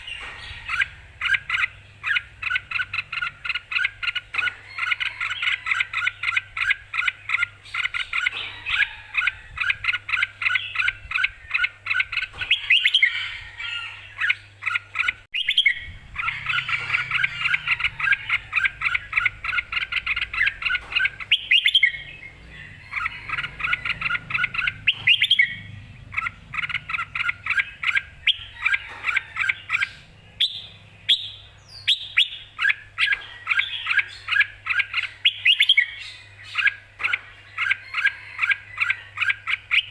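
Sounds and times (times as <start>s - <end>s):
bird singing chirping notes: 0.0s - 39.9s.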